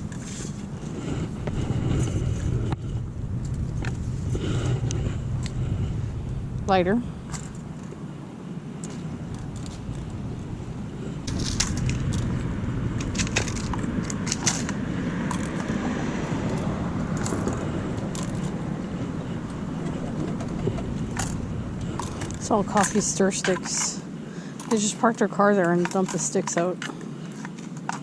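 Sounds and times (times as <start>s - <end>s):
low rumble of car traffic: 0.0s - 28.0s.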